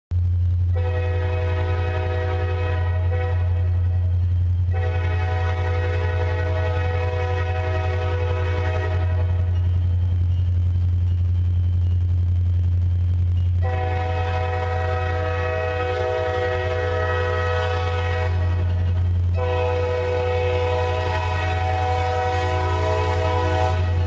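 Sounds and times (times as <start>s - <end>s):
diesel locomotive drone: 0.1s - 24.0s
locomotive air horn chord: 0.7s - 10.1s, 13.6s - 24.0s.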